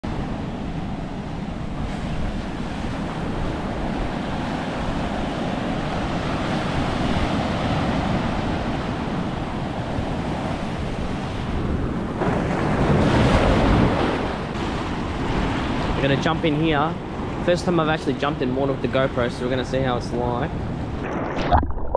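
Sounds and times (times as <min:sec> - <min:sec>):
ocean surf washing in: 0:00.1 - 0:21.9
wind buffeting microphone: 0:00.1 - 0:21.9.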